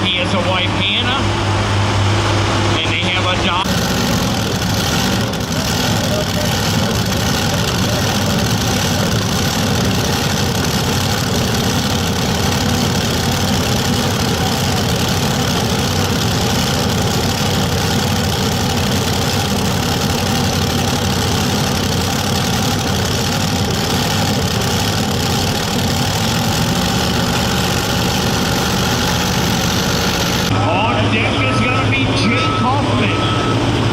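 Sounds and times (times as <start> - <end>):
tractor engine idling: 0.0 - 33.9.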